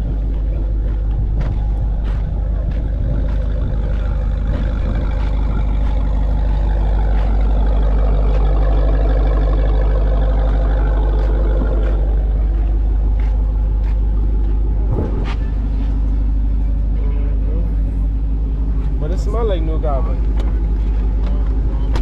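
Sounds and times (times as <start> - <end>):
car engine drone: 0.0 - 22.0.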